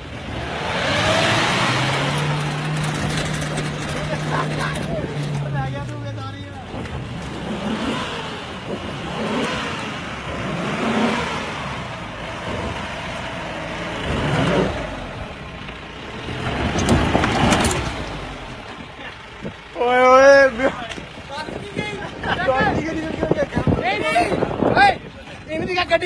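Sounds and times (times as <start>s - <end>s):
suv engines revving hard: 0.0s - 26.0s.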